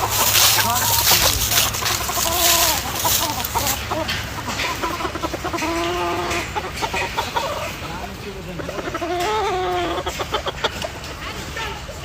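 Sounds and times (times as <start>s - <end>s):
drawn-out chicken call: 0.0s - 7.9s, 8.6s - 12.0s
chickens clucking: 0.0s - 12.0s.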